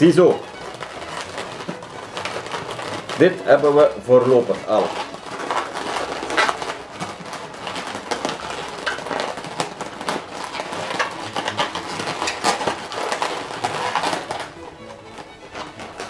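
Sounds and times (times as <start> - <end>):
balloons squeaking and crackling: 0.0 - 16.0.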